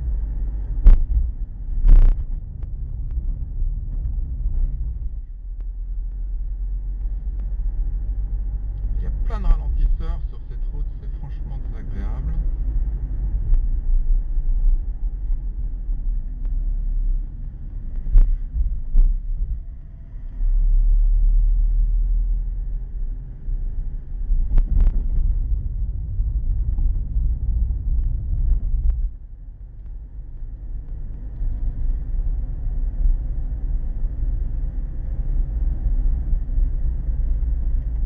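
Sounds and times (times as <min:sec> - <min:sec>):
car driving rumble: 0:00.0 - 0:38.0.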